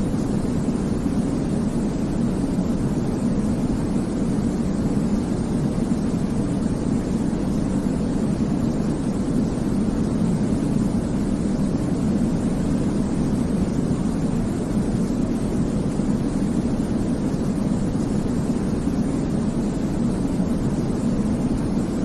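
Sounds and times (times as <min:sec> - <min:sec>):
deep white noise: 0:00.0 - 0:22.0.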